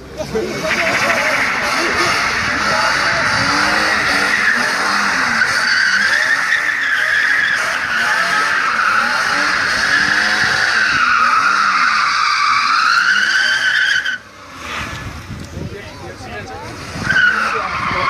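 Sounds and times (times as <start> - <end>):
car engine at high revs: 0.0 - 18.0
tyres squealing: 0.5 - 14.3, 16.7 - 18.0.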